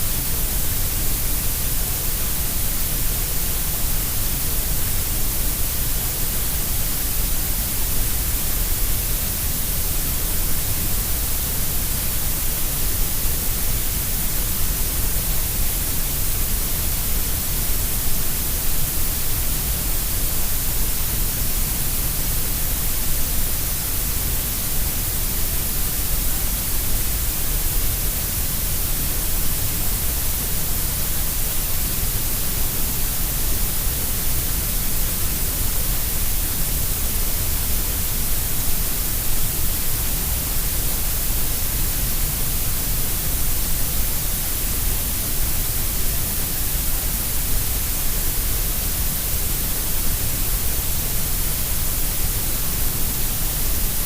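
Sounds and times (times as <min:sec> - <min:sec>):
steady grey noise hiss: 0:00.0 - 0:54.0.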